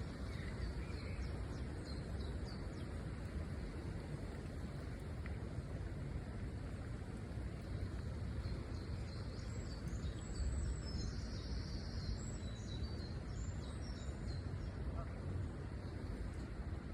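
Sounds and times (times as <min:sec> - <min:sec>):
low outdoor rumble: 0:00.0 - 0:16.9.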